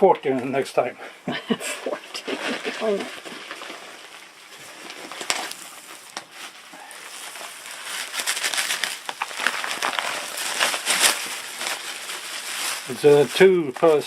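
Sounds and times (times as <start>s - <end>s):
plastic packaging crinkling: 1.7s - 14.0s.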